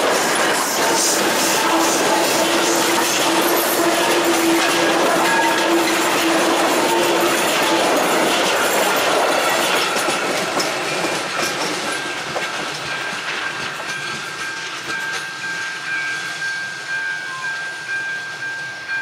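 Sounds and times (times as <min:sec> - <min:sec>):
train wheels clattering over rail joints: 0:00.0 - 0:16.1.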